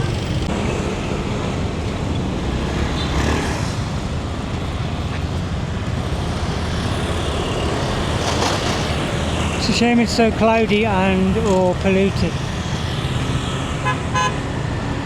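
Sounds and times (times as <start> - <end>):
passing cars: 0.0 - 15.0
passing motorbikes: 0.0 - 15.0.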